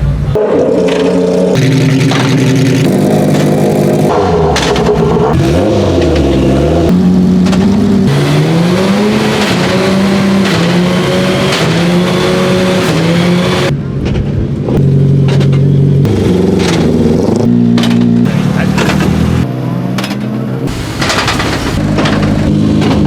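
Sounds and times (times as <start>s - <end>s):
race car engines idling: 1.6s - 23.0s.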